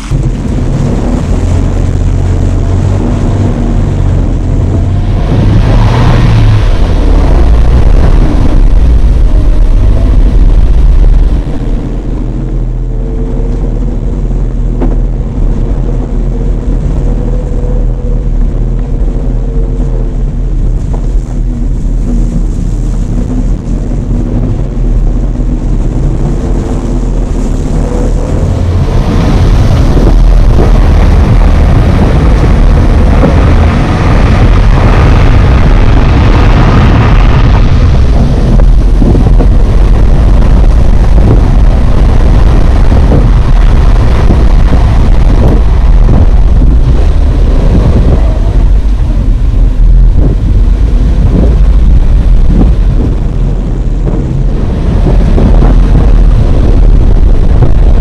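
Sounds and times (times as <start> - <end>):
car engine pulling: 0.0 - 58.0
wind buffeting microphone: 0.0 - 58.0.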